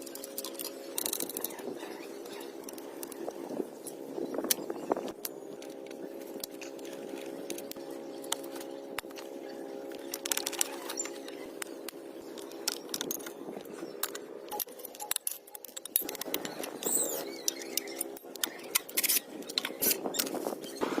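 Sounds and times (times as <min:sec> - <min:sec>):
small electric motor humming: 0:00.0 - 0:20.8.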